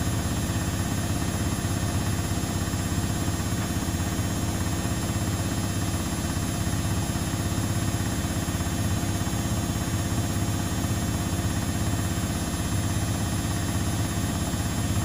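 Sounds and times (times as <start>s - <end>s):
laundry appliance humming: 0.0s - 15.0s.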